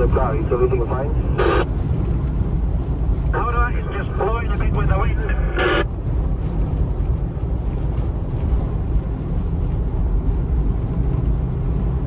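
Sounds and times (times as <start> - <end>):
tyre noise on snowy road: 0.0 - 12.0
wind buffeting car: 0.0 - 12.0.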